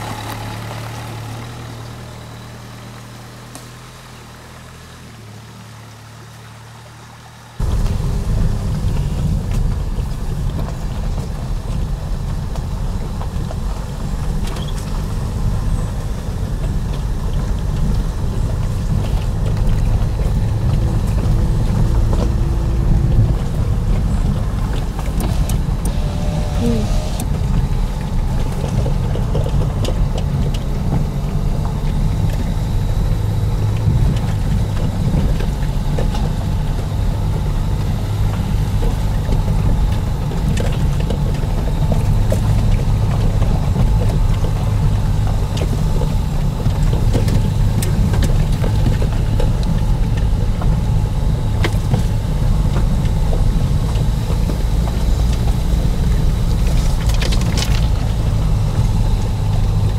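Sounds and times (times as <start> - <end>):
engine and road hum: 0.0 - 59.9.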